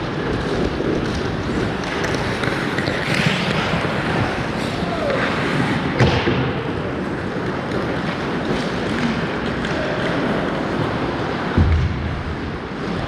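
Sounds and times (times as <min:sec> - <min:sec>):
skates and rink noise: 0:00.0 - 0:13.0.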